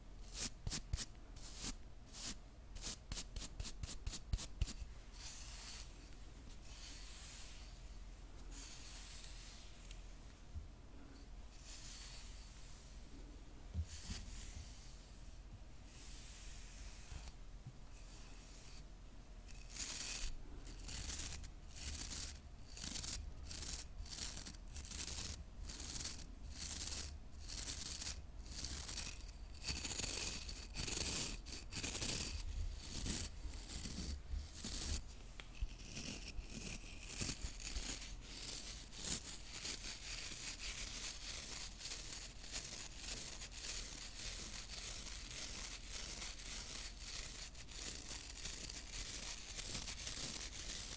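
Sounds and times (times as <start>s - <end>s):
hairbrush bristles scratching: 0.3s - 7.9s, 8.5s - 10.0s, 11.5s - 13.0s, 13.8s - 15.2s, 19.5s - 50.9s.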